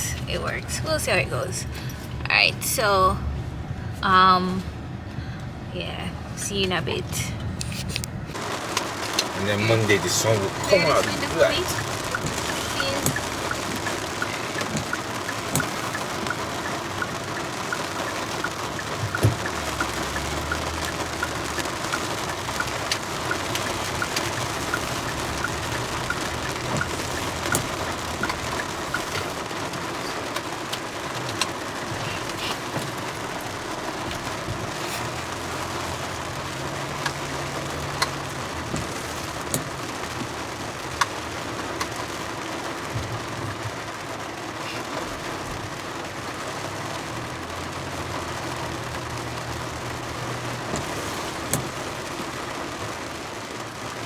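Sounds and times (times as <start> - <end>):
car road and engine noise: 0.0 - 54.0
drizzle ticking on car: 0.0 - 54.0
light regular ticking: 6.4 - 53.1.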